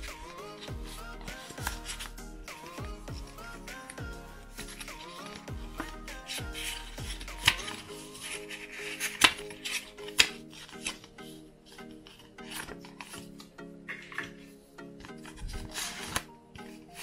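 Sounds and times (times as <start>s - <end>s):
card and paper rubbing: 0.0s - 14.4s, 15.1s - 17.0s
soft background music: 0.0s - 17.0s.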